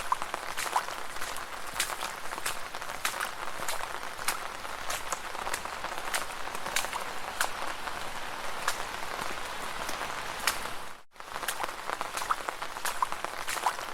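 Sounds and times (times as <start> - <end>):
footsteps splashing through puddles: 0.0 - 13.9
wet crackle of water: 0.0 - 13.9.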